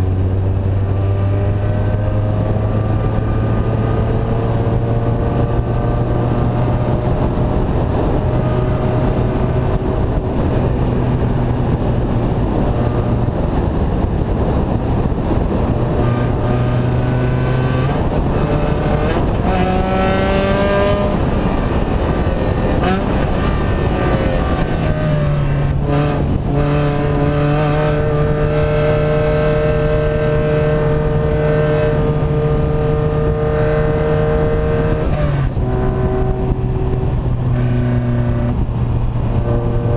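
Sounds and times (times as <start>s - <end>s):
unsilenced vehicle engine running: 0.0s - 39.9s.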